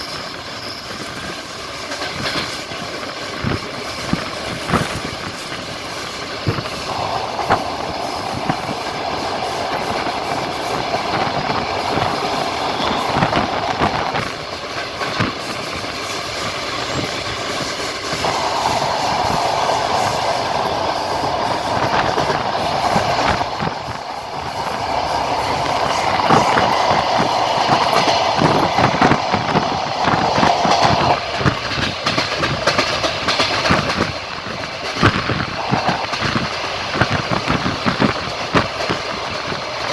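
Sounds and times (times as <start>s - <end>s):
rushing noise: 0.0s - 34.3s
train wheels clattering over rails: 0.0s - 39.9s.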